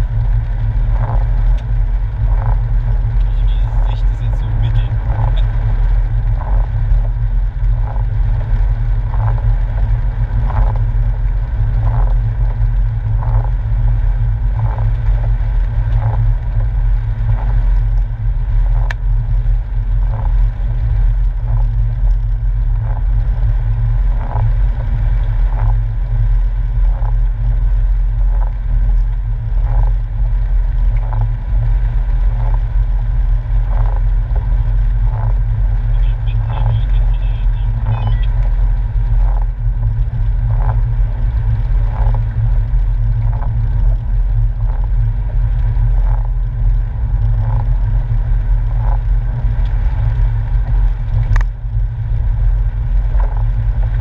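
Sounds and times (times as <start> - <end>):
car cabin drone: 0.0 - 54.0
windscreen wipers swishing: 0.0 - 54.0.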